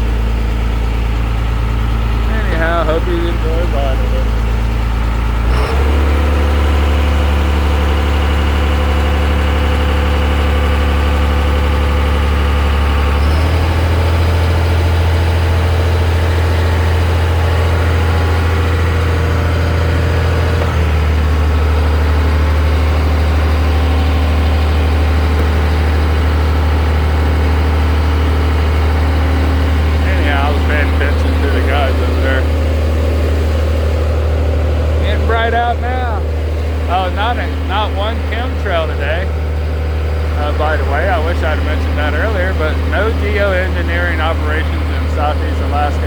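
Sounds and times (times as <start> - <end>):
boat engine humming: 0.0 - 46.0.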